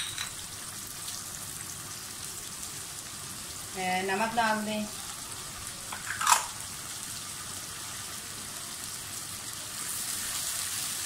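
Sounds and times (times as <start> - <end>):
water boiling in a frying pan: 0.0 - 11.0.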